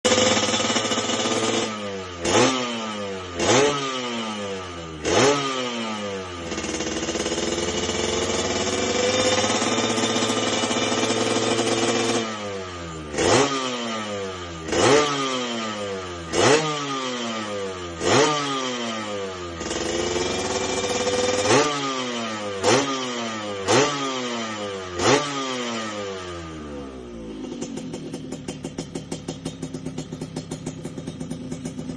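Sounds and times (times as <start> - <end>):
two-stroke engine revving: 0.0 - 31.9.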